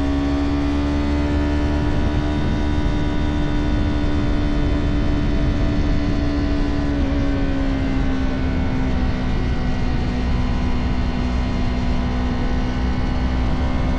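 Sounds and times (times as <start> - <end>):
motorcycle engine cruising: 0.0 - 13.9
wind rumble on microphone: 0.0 - 13.9.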